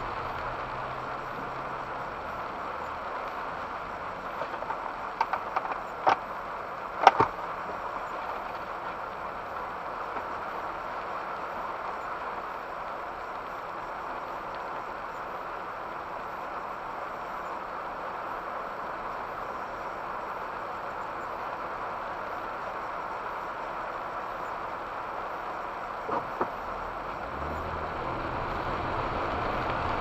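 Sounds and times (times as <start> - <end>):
tyres hissing on wet road: 0.0 - 30.0.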